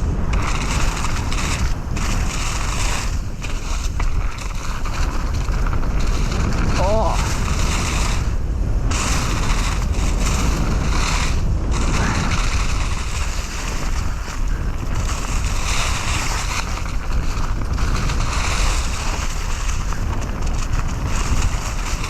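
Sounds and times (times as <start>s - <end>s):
bike tyres rolling on trail: 0.0s - 22.0s
wind buffeting microphone: 0.0s - 22.0s.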